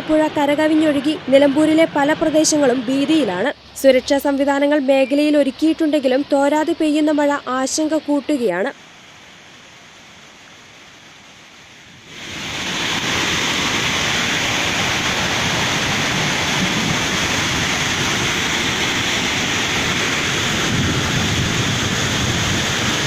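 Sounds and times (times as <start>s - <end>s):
floodwater rushing: 0.0s - 8.1s, 8.8s - 23.0s
faint steady hiss: 0.0s - 20.9s.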